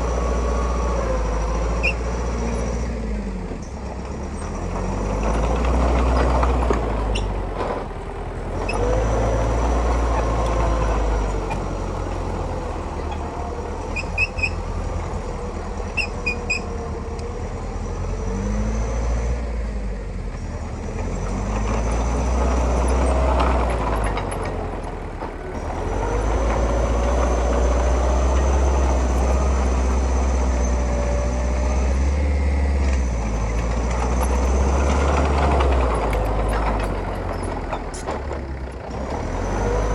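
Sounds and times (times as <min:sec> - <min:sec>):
diesel machinery engine rumble: 0:00.0 - 0:39.9.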